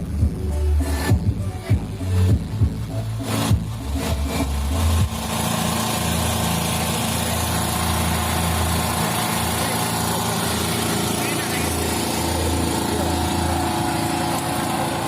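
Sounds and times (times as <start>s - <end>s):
bass-heavy music: 0.0s - 15.0s
small engine running: 0.0s - 15.0s.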